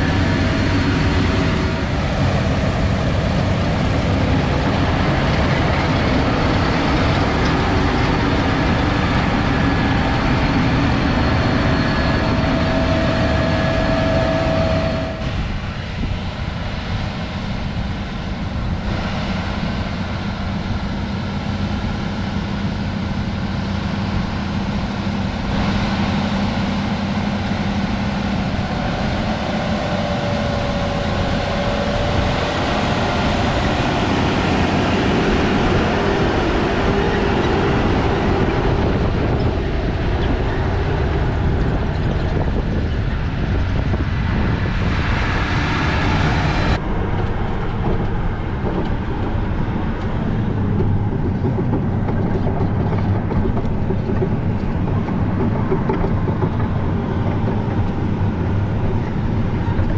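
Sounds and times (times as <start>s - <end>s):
moving machinery: 0.0s - 16.1s, 23.9s - 59.9s
diesel engines running: 0.0s - 59.9s.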